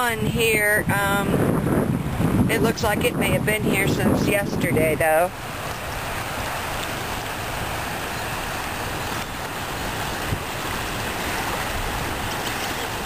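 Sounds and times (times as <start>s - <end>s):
small waves lapping on shore: 0.0s - 13.0s
wind buffeting microphone: 0.0s - 13.0s.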